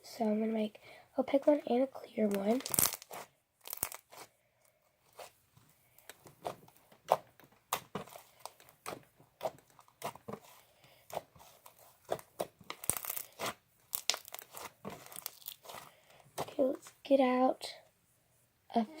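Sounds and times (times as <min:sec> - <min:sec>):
slime squishing with sticky crackles: 0:00.0 - 0:17.7.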